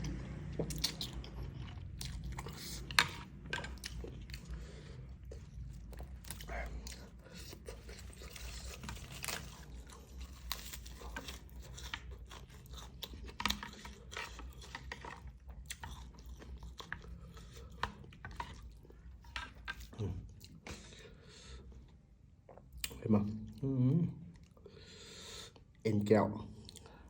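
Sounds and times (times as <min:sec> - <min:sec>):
person chewing noodle soup: 0:00.0 - 0:25.8, 0:26.5 - 0:27.0.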